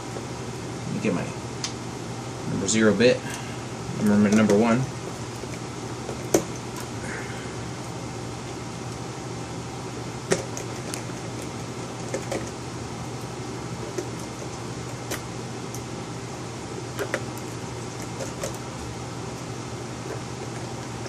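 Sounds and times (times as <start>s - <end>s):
low fan hum: 0.0s - 21.0s.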